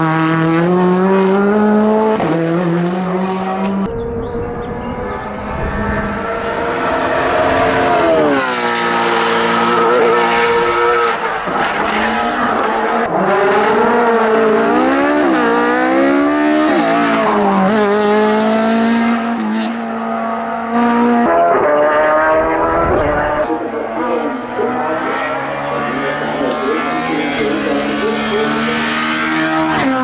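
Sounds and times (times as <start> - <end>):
racing car engine revving: 0.0 - 30.0.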